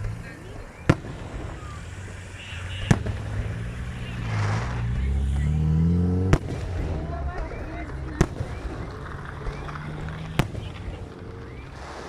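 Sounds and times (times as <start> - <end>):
car engine accelerating: 0.0 - 12.0
firework bangs: 0.0 - 12.0.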